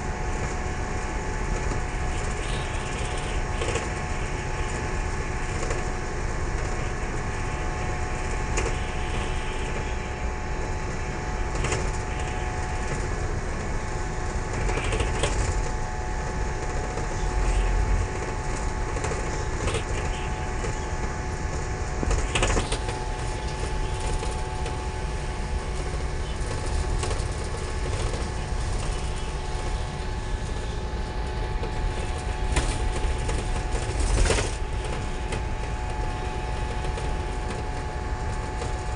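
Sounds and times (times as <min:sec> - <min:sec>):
engine and road rumble: 0:00.0 - 0:38.9
steady whine: 0:00.0 - 0:38.9.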